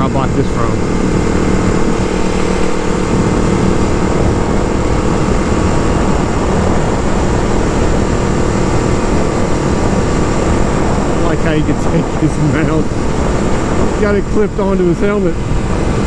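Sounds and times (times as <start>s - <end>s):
motorcycle engine hum: 0.0s - 16.0s
wind rush on microphone: 0.0s - 16.0s.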